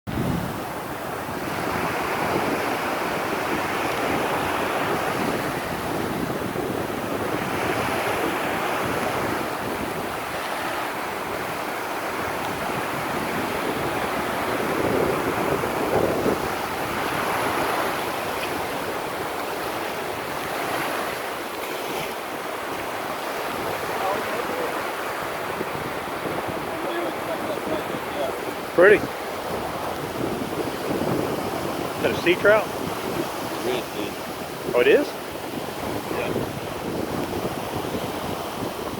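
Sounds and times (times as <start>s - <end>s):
surf breaking on a beach: 0.1s - 38.9s
wind buffeting microphone: 0.1s - 38.9s.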